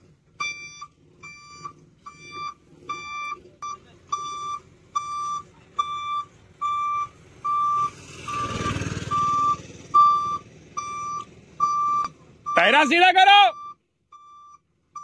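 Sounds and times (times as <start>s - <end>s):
engine rumble: 0.0s - 15.0s
reversing alarm beeping: 0.4s - 15.0s.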